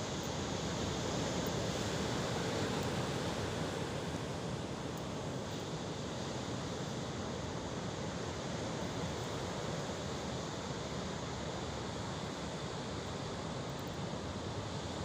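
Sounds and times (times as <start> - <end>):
sea waves and surf: 0.0 - 15.0.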